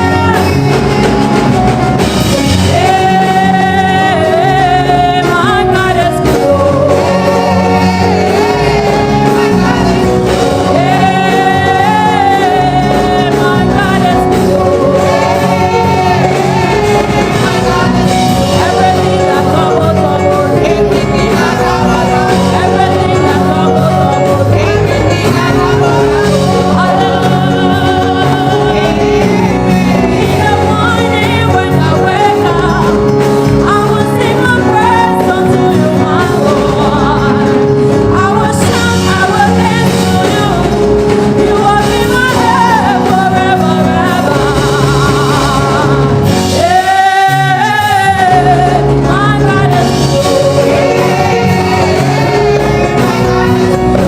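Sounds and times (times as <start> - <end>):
gospel singers: 0.0 - 54.0
live band playing: 0.0 - 54.0.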